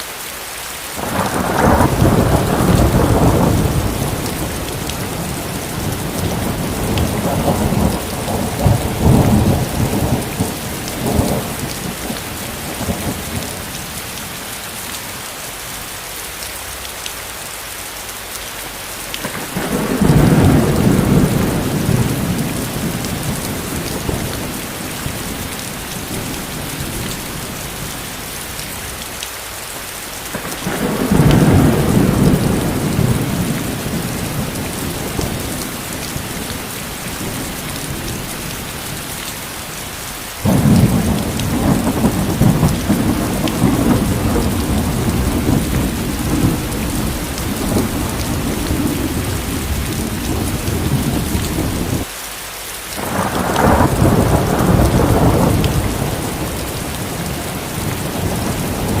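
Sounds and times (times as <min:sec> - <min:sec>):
steady rain: 0:00.0 - 0:59.0
thunder rumbling: 0:01.0 - 0:14.7, 0:19.2 - 0:29.2, 0:30.3 - 0:52.1, 0:53.0 - 0:59.0.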